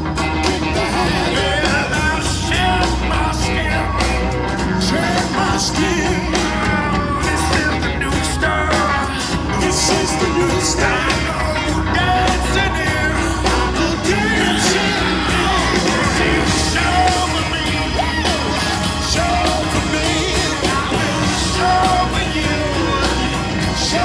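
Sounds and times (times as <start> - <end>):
rock band playing: 0.0 - 24.0
person singing: 0.4 - 24.0.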